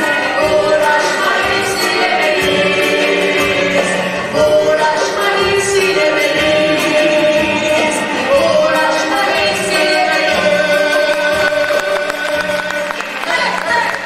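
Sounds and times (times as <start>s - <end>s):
mixed choir singing: 0.0s - 13.8s
man and woman singing duet: 0.0s - 14.0s
traditional string instruments: 0.0s - 14.0s.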